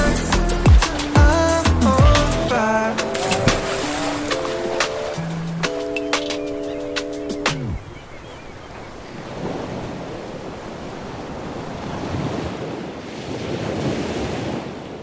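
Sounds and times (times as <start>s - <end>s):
sea waves: 0.0s - 15.0s.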